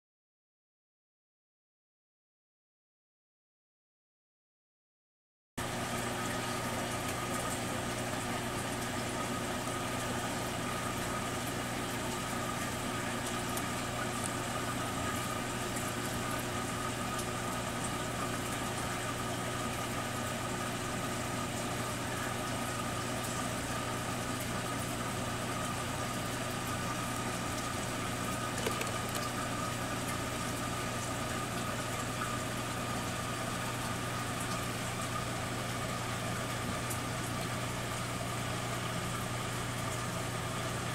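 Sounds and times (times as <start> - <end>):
aquarium air pump humming: 5.6 - 40.9.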